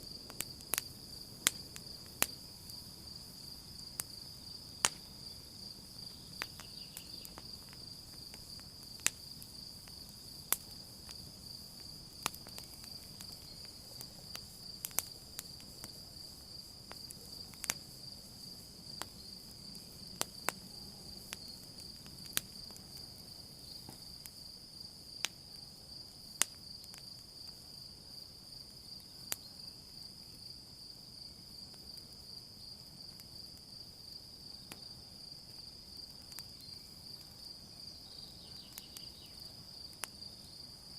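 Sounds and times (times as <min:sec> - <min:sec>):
campfire crackling and popping: 0:00.0 - 0:40.9
night insects trilling: 0:00.0 - 0:40.9.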